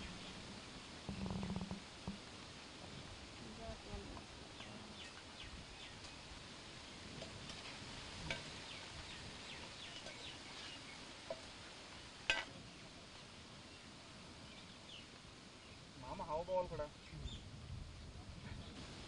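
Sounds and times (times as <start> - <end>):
small birds chirping: 0.0 - 2.2, 3.4 - 17.6.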